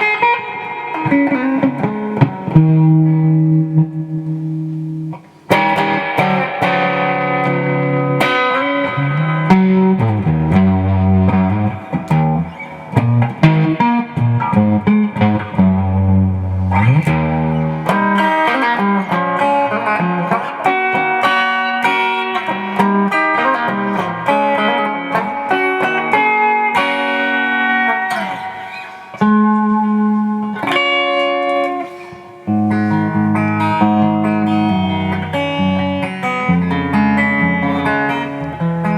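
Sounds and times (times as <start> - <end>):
electric guitar notes and chords: 0.0 - 38.9.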